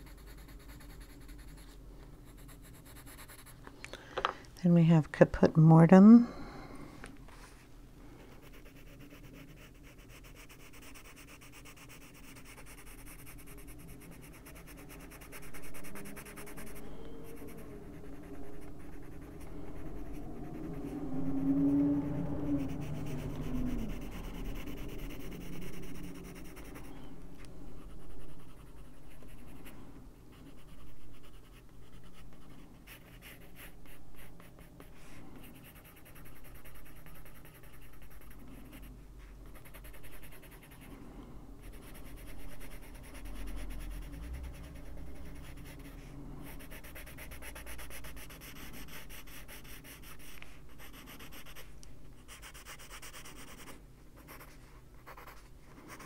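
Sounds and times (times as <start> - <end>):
coloured pencil scratching on paper: 0.0 - 3.6, 8.3 - 27.1, 27.7 - 41.0, 41.6 - 56.0.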